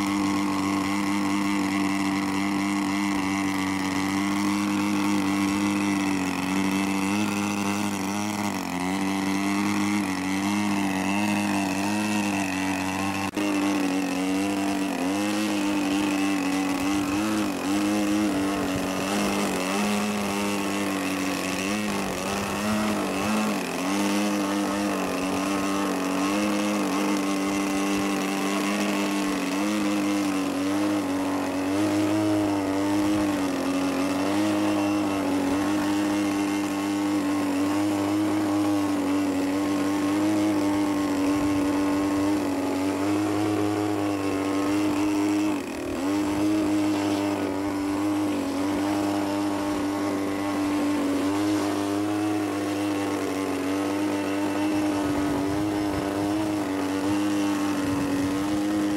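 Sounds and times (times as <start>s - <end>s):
model plane engine at high throttle: 0.0s - 58.9s.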